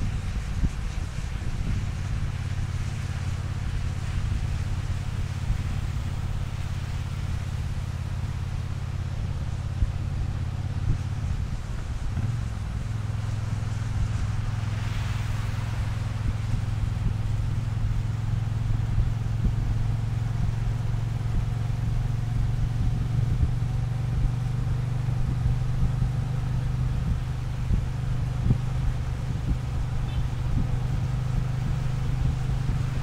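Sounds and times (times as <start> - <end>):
wind noise: 0.0 - 33.0
motorcycle engine cruising: 1.6 - 33.0.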